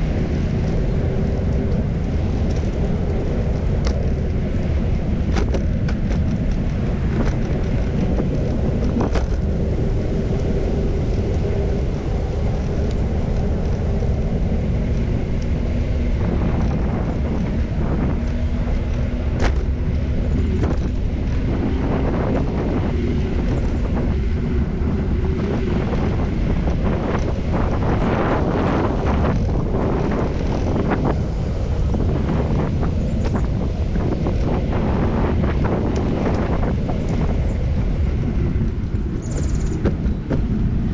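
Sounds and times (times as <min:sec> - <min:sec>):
passing traffic: 0:00.0 - 0:40.9
wind rumbling on microphone: 0:00.0 - 0:40.9.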